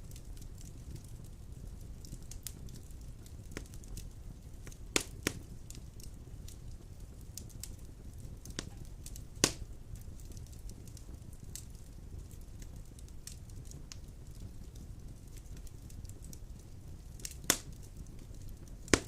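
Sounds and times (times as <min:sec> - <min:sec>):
wood fire rumbling and crackling: 0:00.0 - 0:19.0
sharp pops of burning logs: 0:00.1 - 0:19.0.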